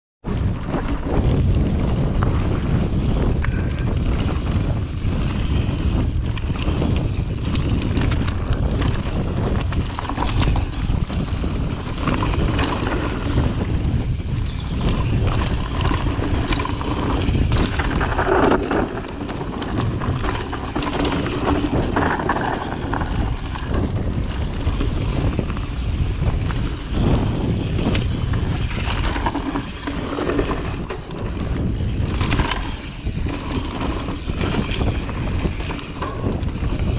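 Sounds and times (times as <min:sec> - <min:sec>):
wind buffeting microphone: 0:00.2 - 0:36.9
bike rattling: 0:00.3 - 0:36.9
tyres rolling over dirt and stones: 0:06.3 - 0:36.9.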